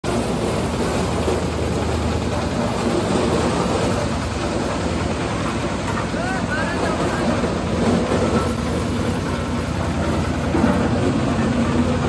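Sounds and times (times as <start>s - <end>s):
low engine hum: 0.0s - 12.0s
rushing threshing noise: 0.0s - 12.0s.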